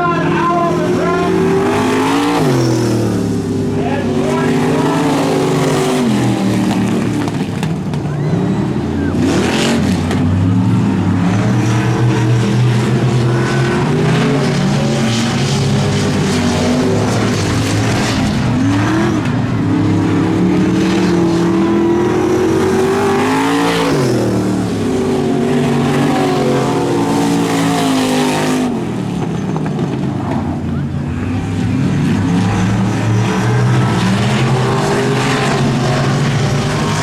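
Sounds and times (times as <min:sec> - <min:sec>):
truck engines revving: 0:00.0 - 0:37.0.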